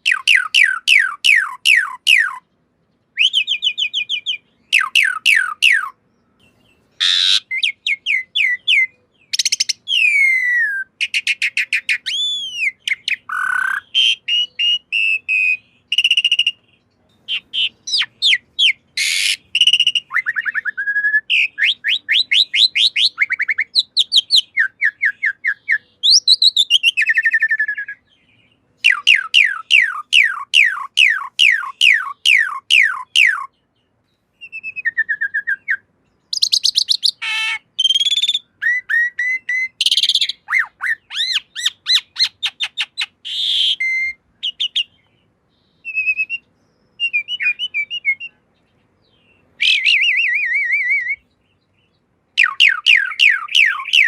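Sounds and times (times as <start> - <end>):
starling whistled song: 0.0 - 2.4, 3.1 - 33.5, 34.3 - 51.7, 52.3 - 54.0
harsh squawky bird calls: 0.0 - 33.7, 34.4 - 54.0.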